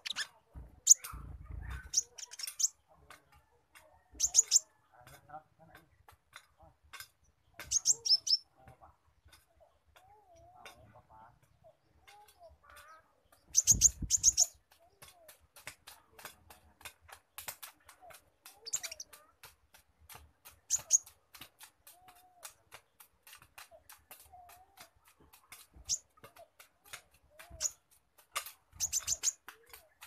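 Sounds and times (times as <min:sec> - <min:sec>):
bird ticking chips: 0:00.0 - 0:30.0.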